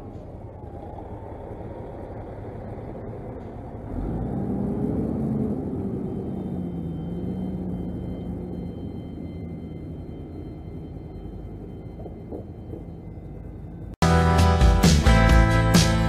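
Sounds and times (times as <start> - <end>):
truck diesel engine rumbling past: 0.0 - 16.0.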